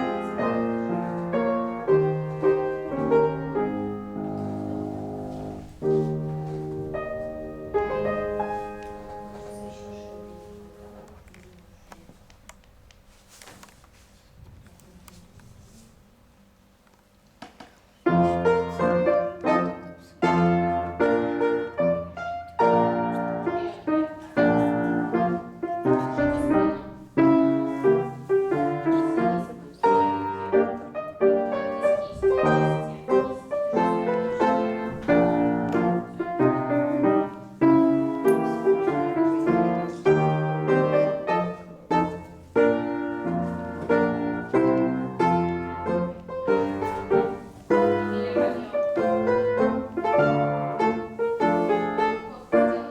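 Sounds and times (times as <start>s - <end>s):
piano music: 0.0s - 11.2s, 18.0s - 52.9s.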